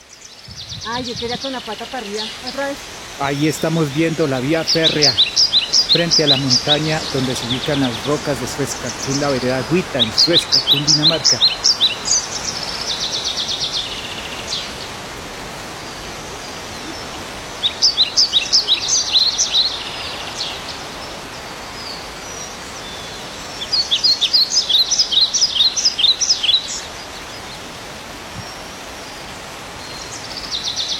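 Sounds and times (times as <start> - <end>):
bird chirping: 0.0 - 14.9, 15.9 - 30.9
steady outdoor hiss: 0.0 - 30.9.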